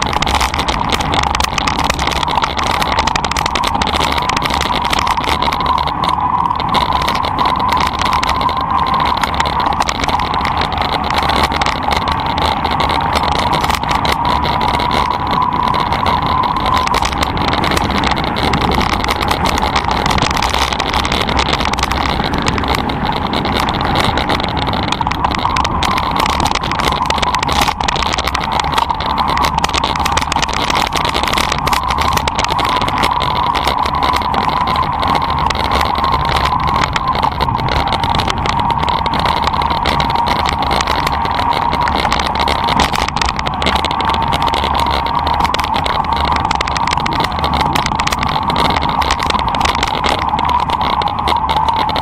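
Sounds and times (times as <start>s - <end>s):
bike rattling: 0.0s - 52.0s.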